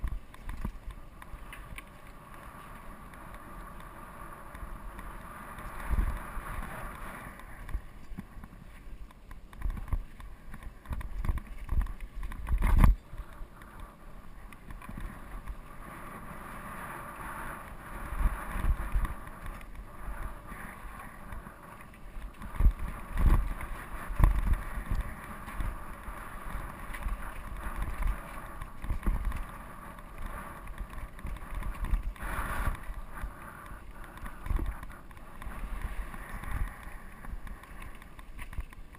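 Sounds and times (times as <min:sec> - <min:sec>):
mountain bike rolling over dirt: 0:00.0 - 0:38.9
wind on the microphone: 0:00.0 - 0:38.9.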